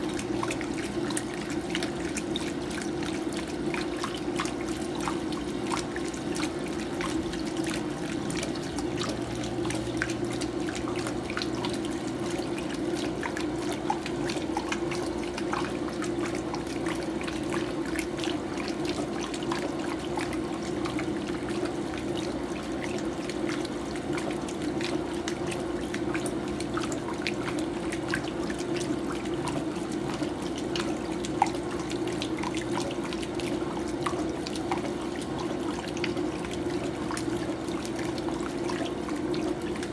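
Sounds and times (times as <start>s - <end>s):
small drips and ticks: 0.0s - 39.9s
washing machine splashing water: 0.0s - 39.9s.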